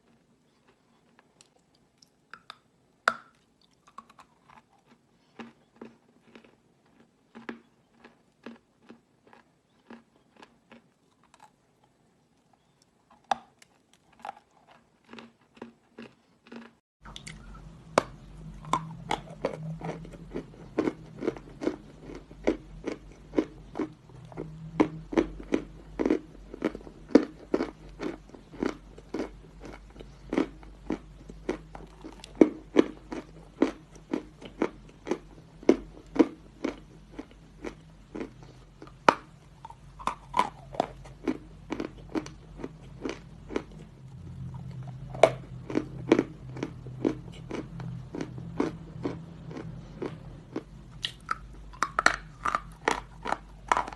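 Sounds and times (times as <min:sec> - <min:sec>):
low steady hum: 0:00.0 - 0:53.9
chalk crunching while chewed: 0:03.4 - 0:11.6, 0:12.4 - 0:53.9.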